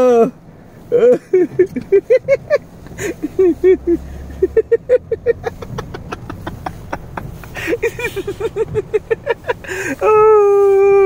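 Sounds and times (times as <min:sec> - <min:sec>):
person laughing hard: 0:00.9 - 0:11.0.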